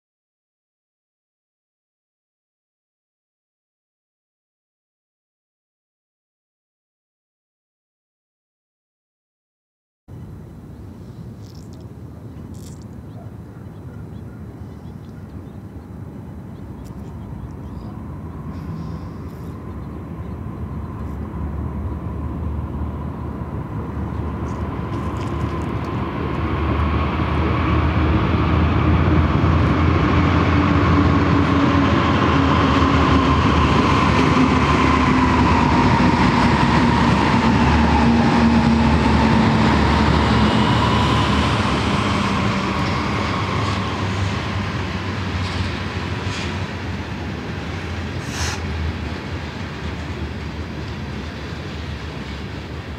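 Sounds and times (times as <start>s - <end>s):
diesel locomotive engine drone: 10.1s - 52.9s
freight cars rumbling on rails: 10.1s - 52.9s.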